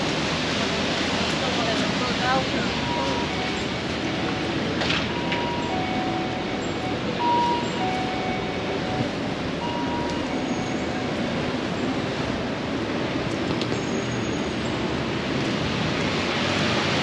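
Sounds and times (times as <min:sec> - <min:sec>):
traffic on wet road: 0:00.0 - 0:17.0.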